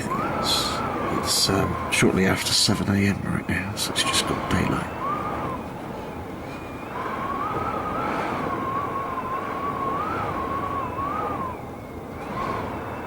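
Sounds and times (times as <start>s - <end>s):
gusty wind rushing: 0.0s - 13.0s
wind whistling: 0.0s - 13.0s.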